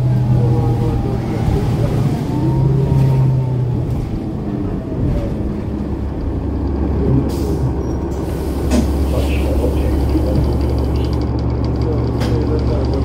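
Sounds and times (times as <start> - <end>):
diesel bus engine idling: 0.0 - 13.0.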